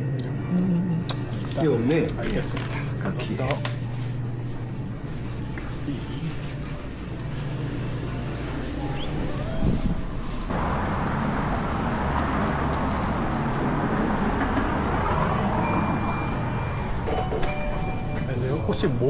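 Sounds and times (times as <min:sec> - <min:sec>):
road traffic noise: 0:03.6 - 0:19.0.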